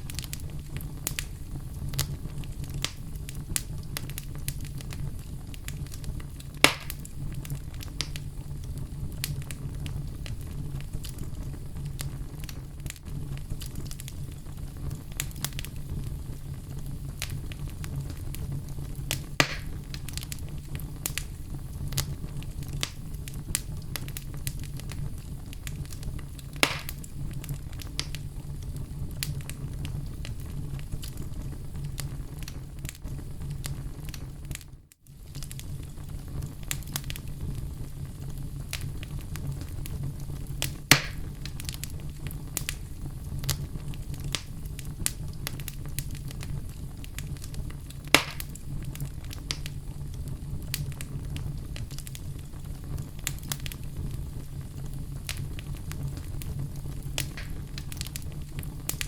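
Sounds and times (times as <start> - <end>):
fire crackling in a fireplace: 0.0 - 59.0
loud fire pops: 0.0 - 59.0.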